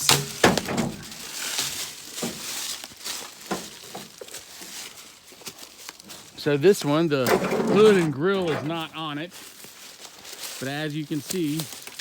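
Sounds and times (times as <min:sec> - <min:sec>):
footsteps crunching dry leaves: 0:00.0 - 0:07.2, 0:07.8 - 0:12.0.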